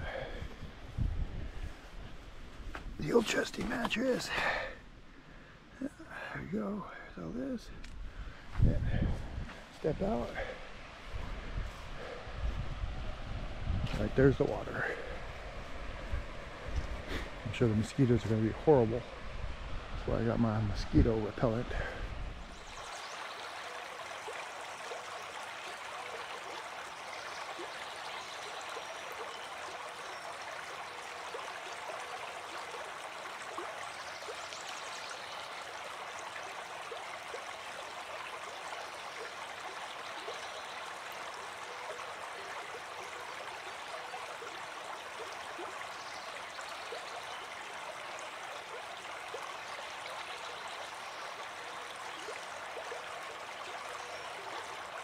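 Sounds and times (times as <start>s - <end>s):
brook flowing over stones: 2.9s - 4.8s, 6.2s - 55.0s.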